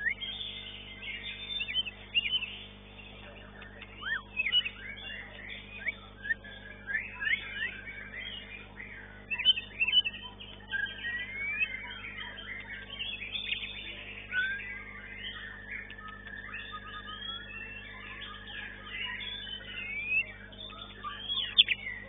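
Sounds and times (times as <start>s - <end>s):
songbird whistling and chirping: 0.0s - 22.0s.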